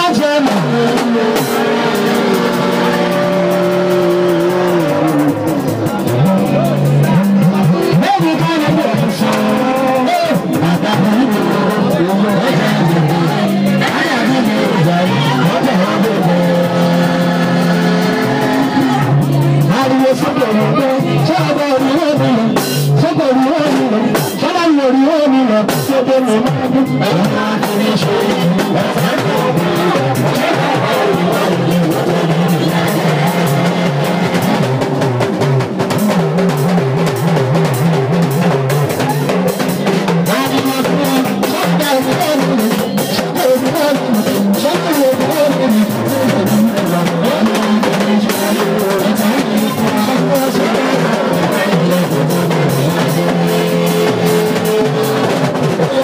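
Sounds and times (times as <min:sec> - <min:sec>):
man singing into a microphone: 0:00.0 - 0:34.8, 0:39.0 - 0:56.0
steady drum beat: 0:00.0 - 0:56.0.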